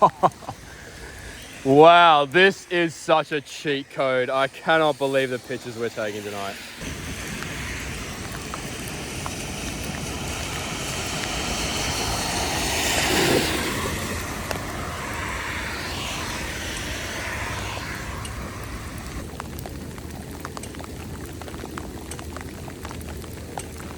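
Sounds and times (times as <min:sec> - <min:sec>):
steady rain: 0:00.0 - 0:23.9
vehicle tyres hissing on wet road: 0:00.0 - 0:23.9.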